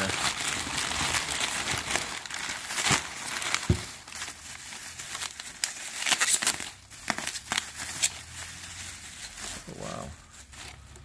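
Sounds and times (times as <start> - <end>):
newspaper rustling and crinkling: 0.0 - 11.0
plastic bag crackling: 0.0 - 11.0.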